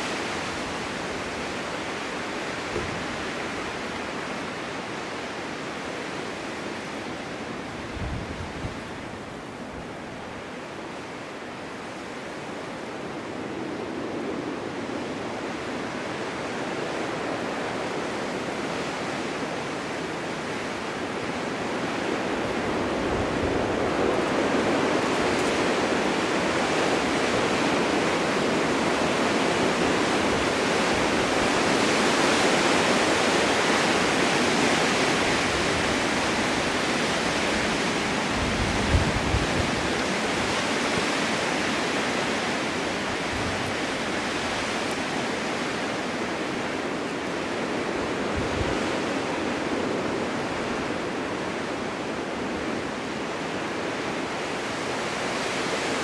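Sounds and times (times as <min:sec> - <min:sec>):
snowstorm wind rushing: 0:00.0 - 0:09.9, 0:12.1 - 0:56.0.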